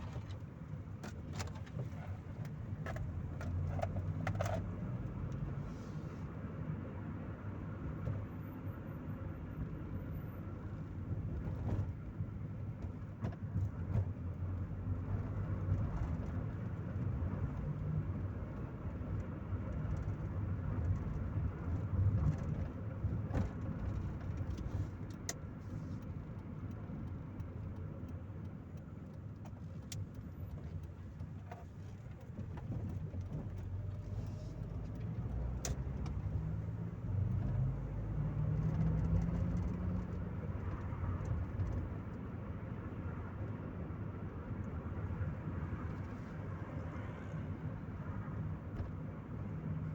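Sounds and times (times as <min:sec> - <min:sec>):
road rumble: 0:00.0 - 0:49.9.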